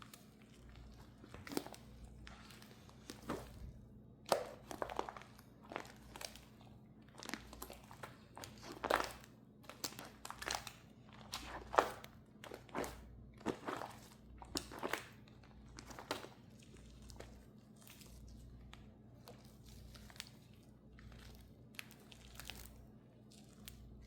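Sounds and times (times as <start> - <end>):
slime crackling and squishing: 0.0 - 24.0.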